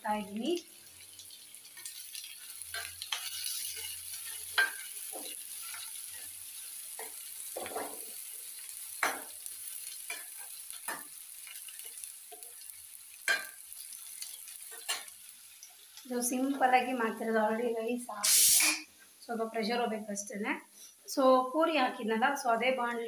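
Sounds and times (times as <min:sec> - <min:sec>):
food sizzling in hot oil: 0:00.0 - 0:18.9.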